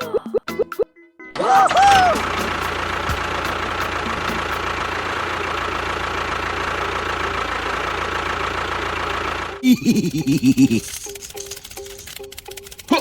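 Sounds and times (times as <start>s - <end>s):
engine idling with knocking rattle: 1.6s - 13.0s.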